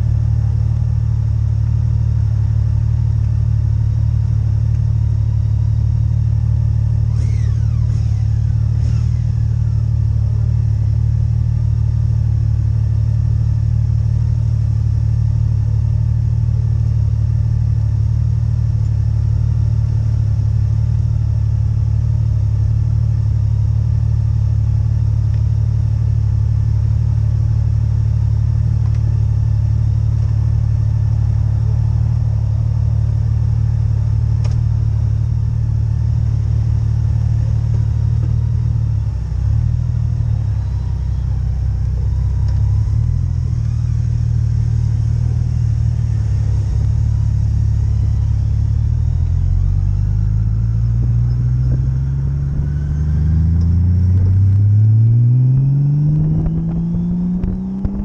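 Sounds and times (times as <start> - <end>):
motorcycle engines idling: 0.0 - 54.7.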